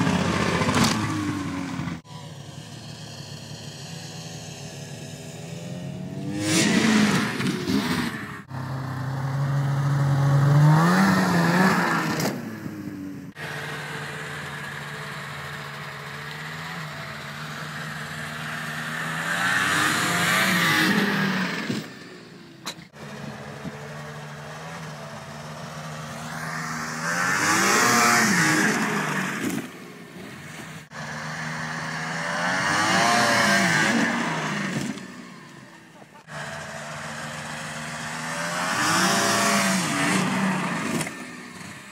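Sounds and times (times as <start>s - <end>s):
snowmobile engines revving: 0.0s - 41.9s.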